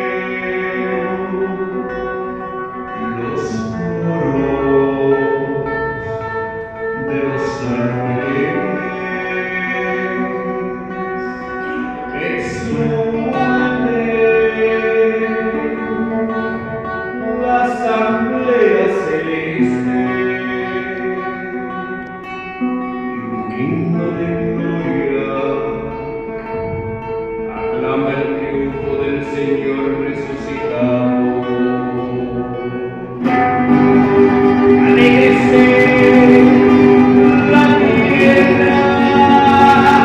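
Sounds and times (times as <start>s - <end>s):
singing: 0.0s - 2.1s, 2.9s - 21.5s, 27.6s - 40.0s
guitar with long held notes: 0.0s - 40.0s.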